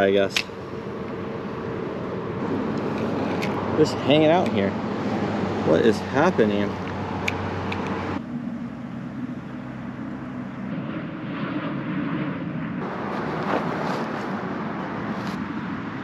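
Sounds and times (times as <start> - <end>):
distant engine rumble: 0.0 - 16.0.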